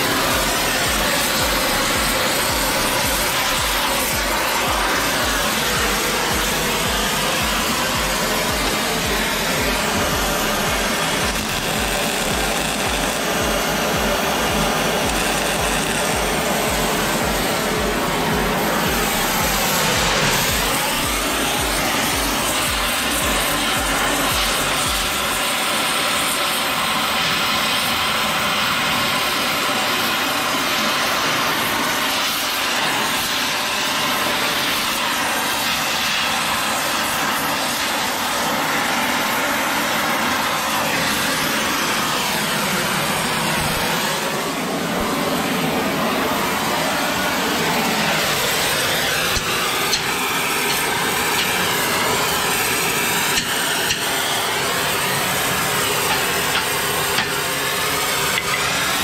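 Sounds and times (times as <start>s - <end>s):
welding torch hissing: 0.0s - 59.0s.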